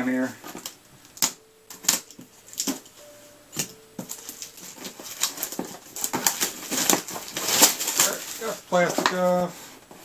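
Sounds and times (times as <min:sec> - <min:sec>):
plastic wrap crinkling and tearing: 0:00.0 - 0:10.0.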